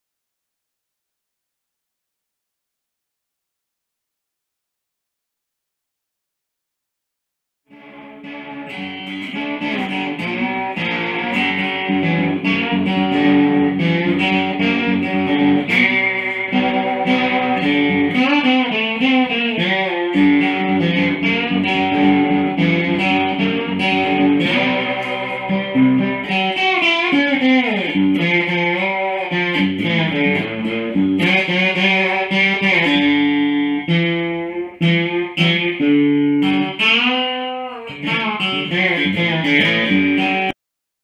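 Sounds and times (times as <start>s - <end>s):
guitar picking and sliding: 7.7s - 40.6s.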